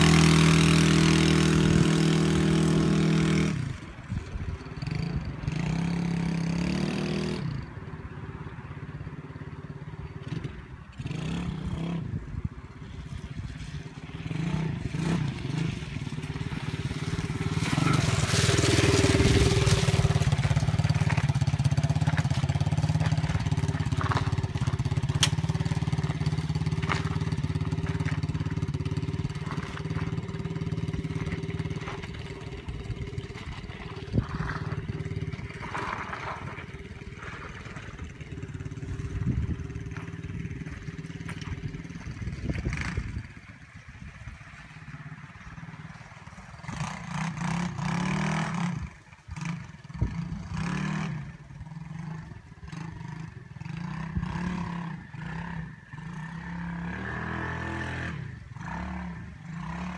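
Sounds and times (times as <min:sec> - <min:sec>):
dirt bike engine revving: 0:00.0 - 0:03.9, 0:04.7 - 0:07.7, 0:10.2 - 0:12.2, 0:13.8 - 0:59.9.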